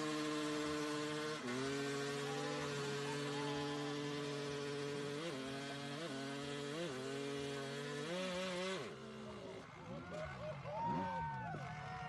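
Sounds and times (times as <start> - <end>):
motorbike engine idling and revving: 0.0 - 12.0.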